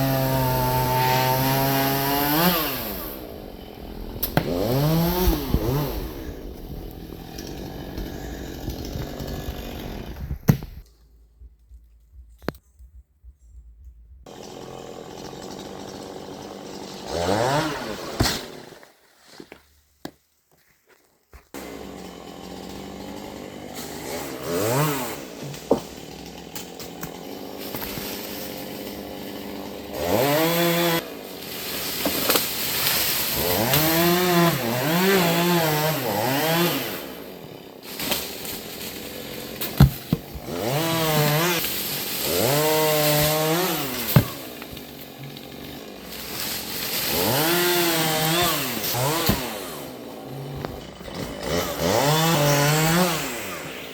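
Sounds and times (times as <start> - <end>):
chainsaw idling and revving: 0.0 - 10.8, 14.2 - 18.2, 21.5 - 53.9.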